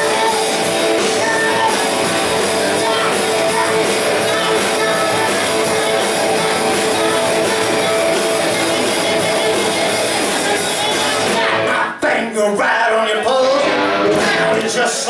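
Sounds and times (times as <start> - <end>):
electric guitars: 0.0 - 11.9, 13.2 - 15.0
rock band playing live: 0.0 - 12.0, 13.2 - 15.0.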